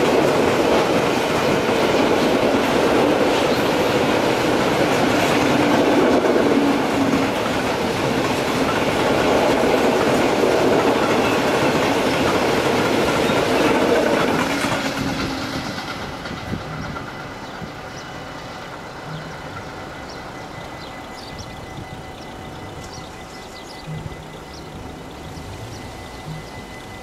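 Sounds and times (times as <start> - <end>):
train wagons rolling past: 0.0 - 27.0.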